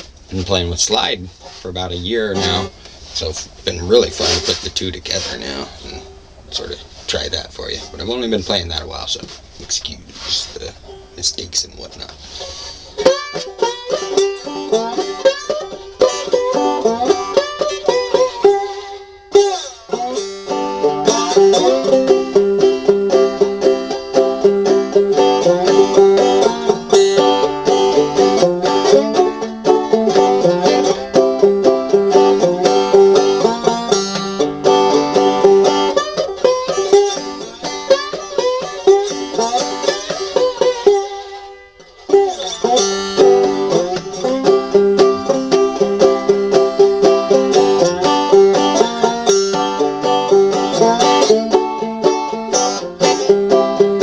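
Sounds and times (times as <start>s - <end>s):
banjo blues tune with slide: 0.0s - 54.0s.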